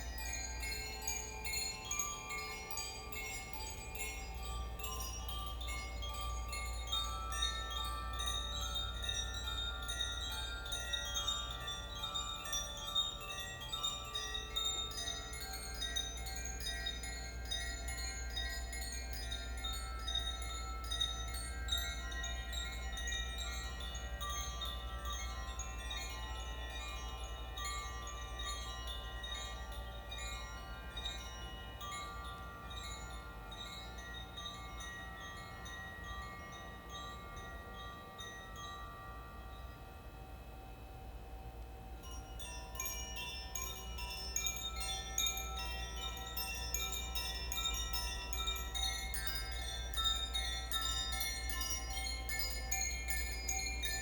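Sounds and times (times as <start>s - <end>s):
wind chimes shimmering: 0.0s - 54.0s.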